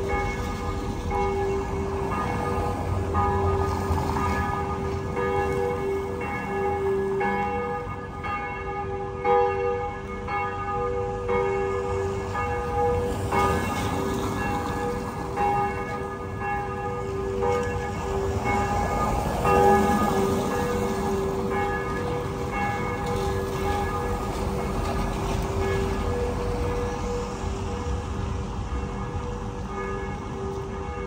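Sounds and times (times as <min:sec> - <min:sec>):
church bells ringing: 0:00.0 - 0:31.0.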